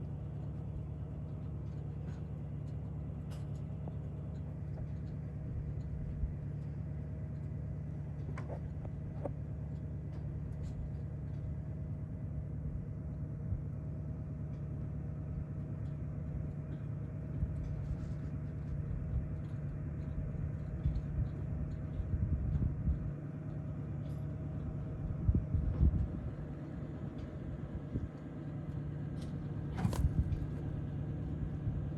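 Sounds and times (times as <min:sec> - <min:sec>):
faint constant hum: 0:00.0 - 0:31.9
steady low rumble: 0:00.0 - 0:31.9.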